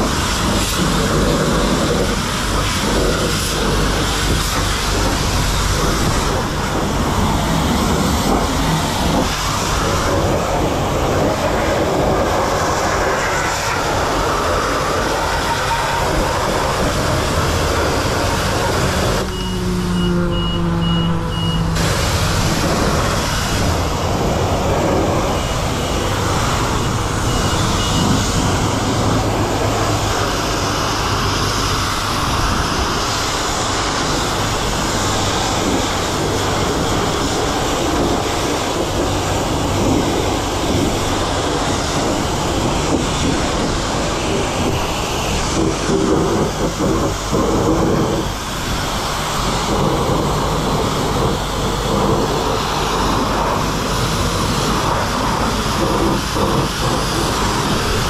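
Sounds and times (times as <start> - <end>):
pressure washer spraying water: 0.0 - 58.0.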